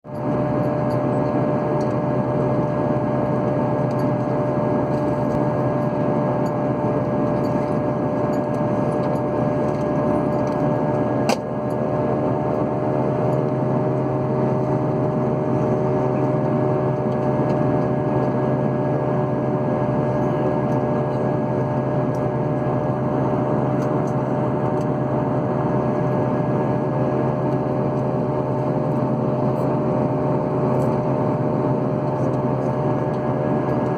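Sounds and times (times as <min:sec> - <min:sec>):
aircraft engines droning in cabin: 0:00.1 - 0:33.9.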